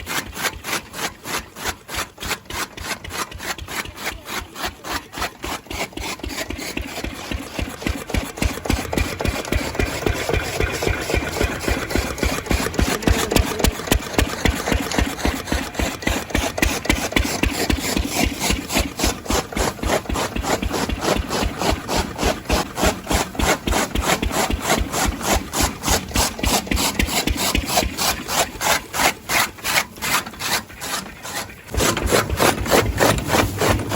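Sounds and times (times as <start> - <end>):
old engine running rhythmically: 0.0 - 33.9
rough grass cutting noise: 0.0 - 33.9.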